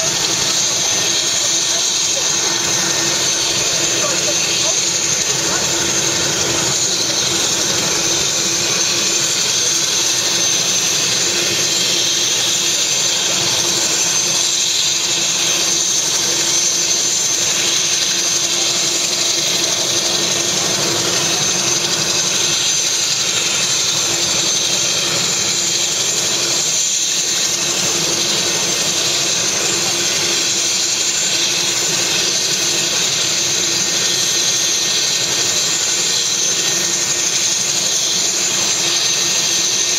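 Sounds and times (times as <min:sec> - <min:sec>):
helicopter turbine idling: 0:00.0 - 0:39.9.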